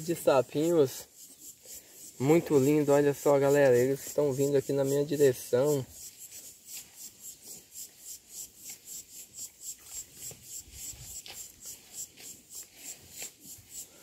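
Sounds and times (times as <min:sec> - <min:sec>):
insect rasping calls: 0:00.0 - 0:14.0.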